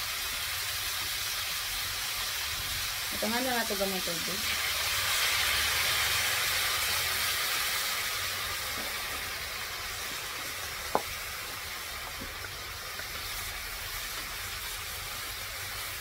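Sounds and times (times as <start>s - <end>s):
water sizzling in frying pan: 0.0s - 16.0s.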